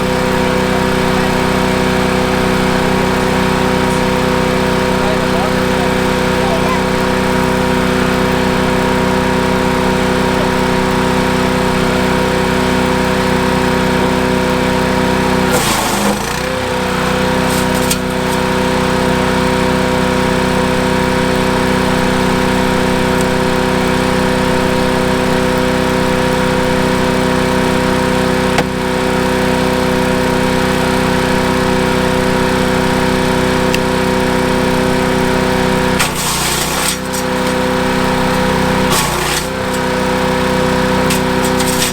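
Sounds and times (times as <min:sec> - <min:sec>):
wood chipper engine running: 0:00.0 - 0:41.9.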